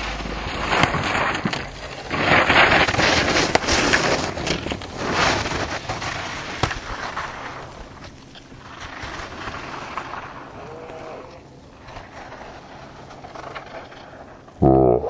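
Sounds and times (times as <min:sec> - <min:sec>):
skis scraping on hard snow: 0:00.0 - 0:14.5.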